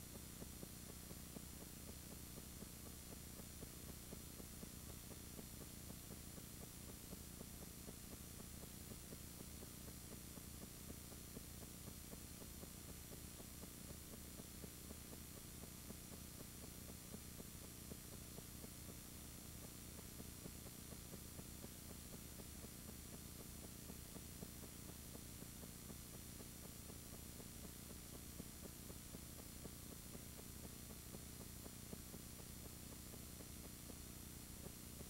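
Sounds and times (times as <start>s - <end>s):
faint hiss and hum: 0.0s - 35.0s.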